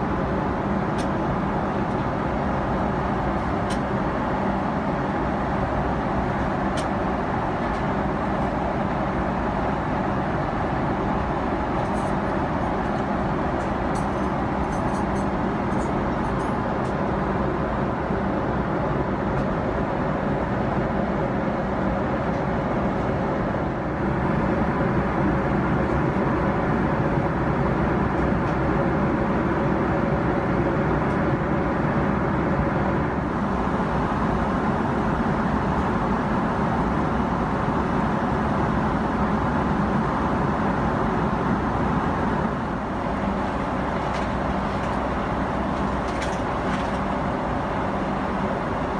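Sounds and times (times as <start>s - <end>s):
jet engines humming: 0.0s - 48.9s.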